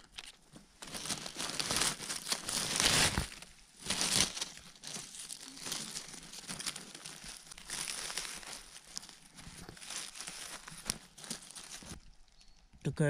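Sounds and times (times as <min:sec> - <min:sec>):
dry leaves crackling: 0:00.0 - 0:12.7.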